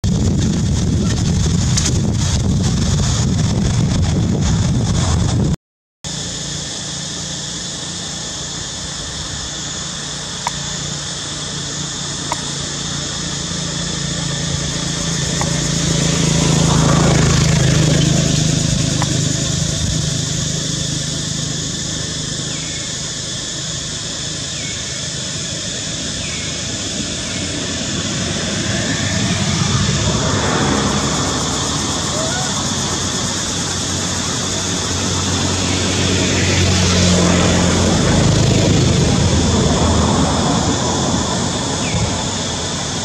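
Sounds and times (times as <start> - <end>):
insects droning: 0.0 - 5.1, 6.1 - 43.0
vehicle engine hum: 0.0 - 43.0.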